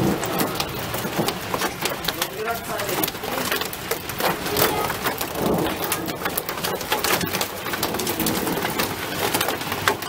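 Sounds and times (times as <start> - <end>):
hail on wood and metal: 0.0 - 10.0.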